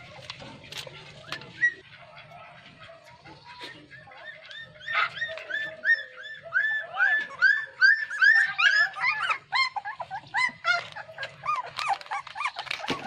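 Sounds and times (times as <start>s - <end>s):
puppies whining and yelping: 0.0s - 13.0s.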